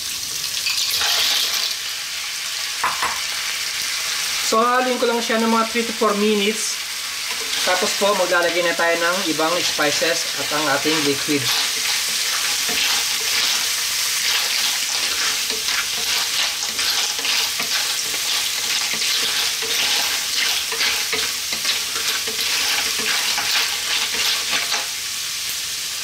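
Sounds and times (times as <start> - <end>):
clams sizzling in oil: 0.0 - 26.0.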